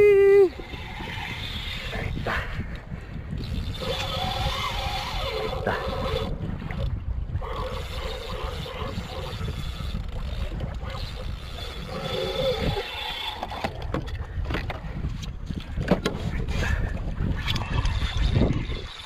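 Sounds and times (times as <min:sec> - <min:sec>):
wind rumbling on microphone: 0:00.0 - 0:19.0
water slapping kayak hull: 0:00.1 - 0:19.0.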